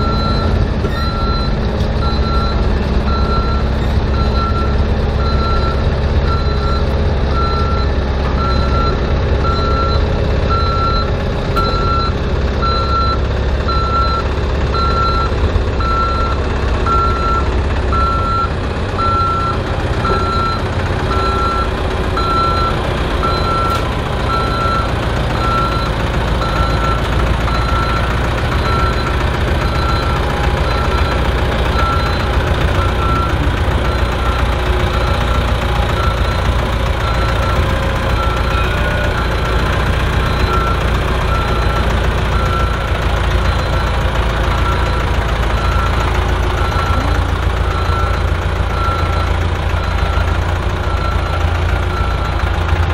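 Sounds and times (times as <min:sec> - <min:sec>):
heavy engine running: 0:00.0 - 0:52.9
reversing alarm beeping: 0:00.0 - 0:52.9.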